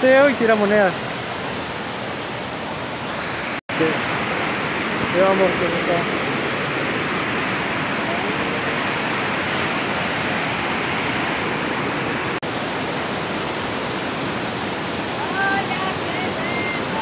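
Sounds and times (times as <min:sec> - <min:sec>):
waterfall roaring over rocks: 0:00.0 - 0:17.0.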